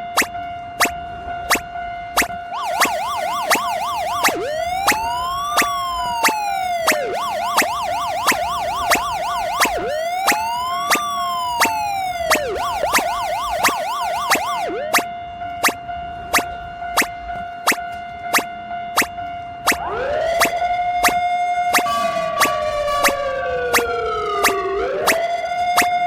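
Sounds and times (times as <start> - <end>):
constant tone: 1.5 - 26.0
level crossing alarm ringing: 2.2 - 26.0
siren yelp and wail: 2.2 - 26.0.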